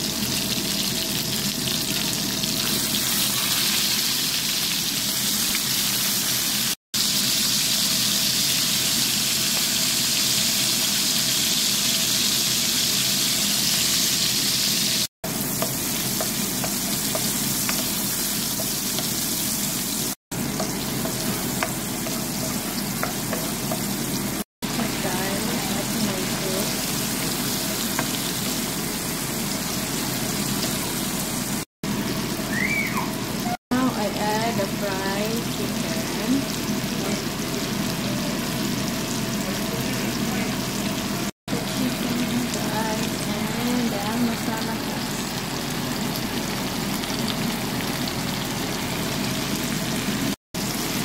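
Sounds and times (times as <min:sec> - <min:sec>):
hot oil sizzling: 0:00.0 - 0:51.0.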